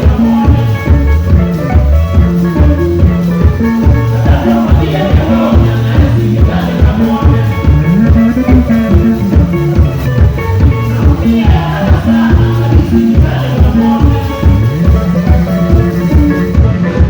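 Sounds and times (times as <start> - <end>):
band music over a pa: 0.0 - 17.0
drum kit: 0.0 - 17.0.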